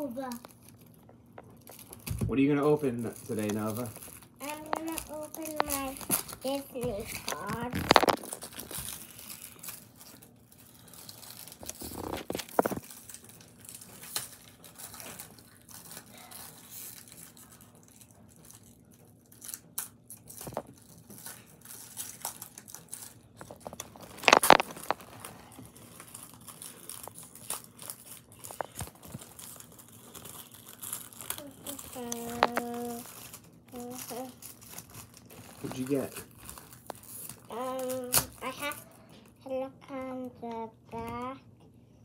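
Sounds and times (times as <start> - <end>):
foil wrapper crinkling and tearing: 0.0 - 39.1.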